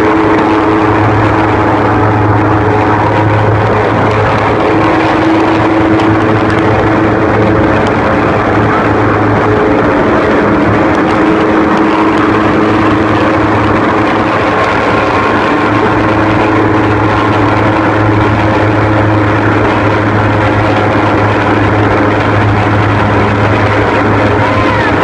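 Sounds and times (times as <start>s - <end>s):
airboat engine droning: 0.0s - 25.0s.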